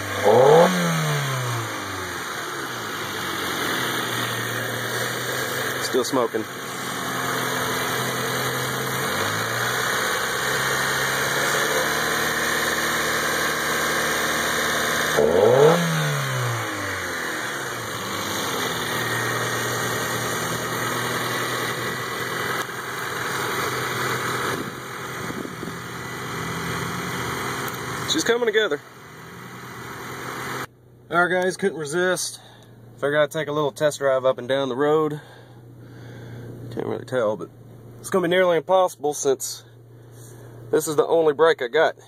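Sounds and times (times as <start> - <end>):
car engine idling and revving: 0.0 - 41.6.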